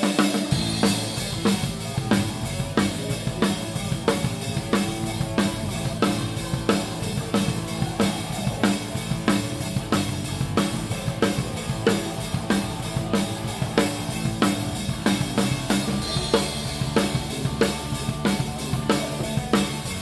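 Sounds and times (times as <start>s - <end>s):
rock drum kit playing: 0.0s - 20.0s.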